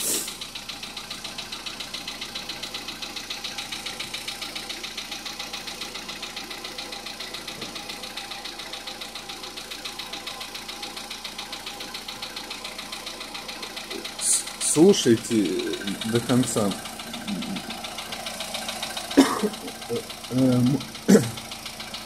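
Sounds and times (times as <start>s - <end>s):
car engine idling with knock: 0.0s - 22.0s.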